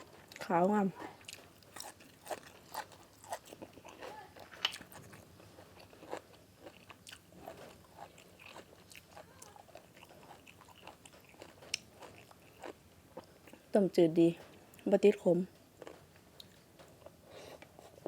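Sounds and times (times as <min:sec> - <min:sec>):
person chewing crunchy food: 0:01.2 - 0:13.7, 0:15.8 - 0:18.0.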